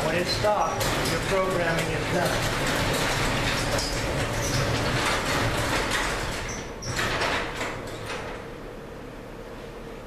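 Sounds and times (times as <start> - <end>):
door rattling and popping on track: 0.0 - 8.5
garage door opener running: 0.0 - 9.4.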